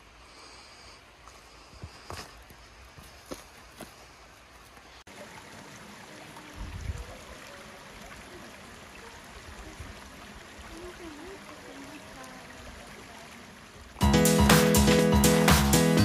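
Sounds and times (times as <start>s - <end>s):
stream running over rocks: 0.0s - 14.5s.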